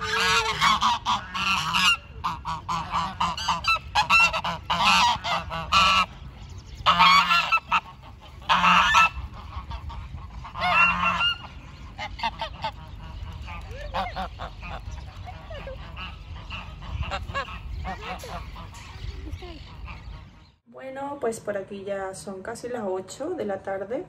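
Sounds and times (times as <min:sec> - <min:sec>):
geese honking: 0:00.0 - 0:20.6.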